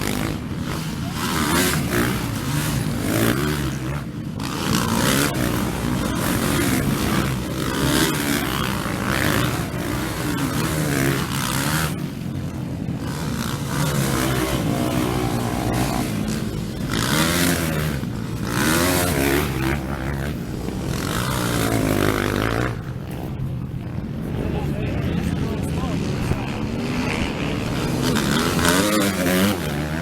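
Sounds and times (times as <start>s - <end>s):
racing motorcycles revving past: 0.0s - 30.0s.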